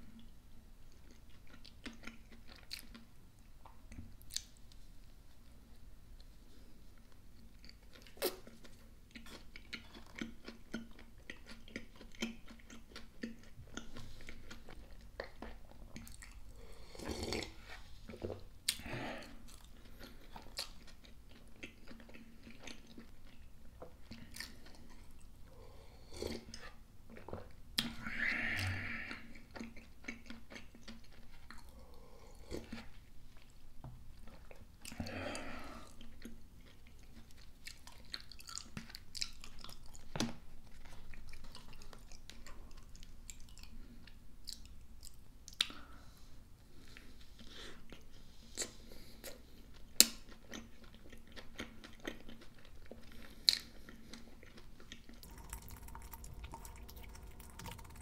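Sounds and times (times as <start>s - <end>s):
person chewing food: 0.9s - 4.7s, 5.3s - 58.0s.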